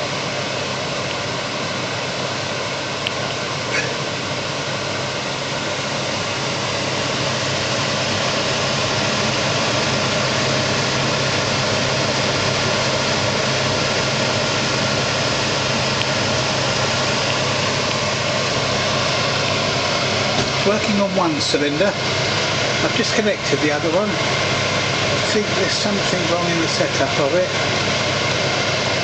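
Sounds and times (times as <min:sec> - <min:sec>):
hot-air engine running: 0:00.0 - 0:29.0.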